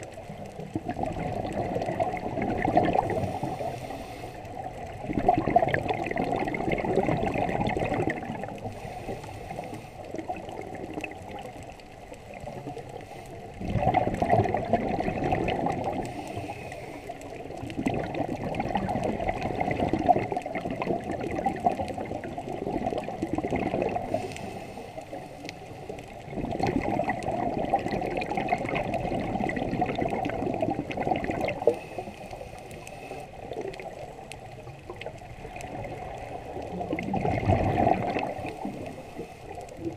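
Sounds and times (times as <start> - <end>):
exhaled bubbles gurgling: 0.0 - 39.9.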